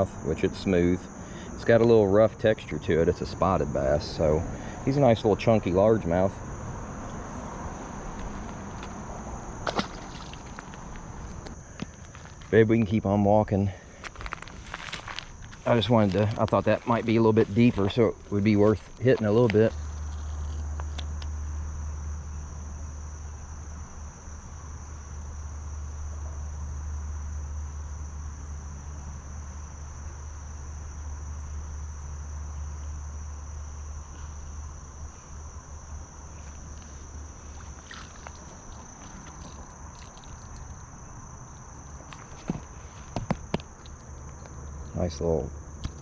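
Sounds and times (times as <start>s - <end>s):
insects buzzing: 0.0s - 46.0s.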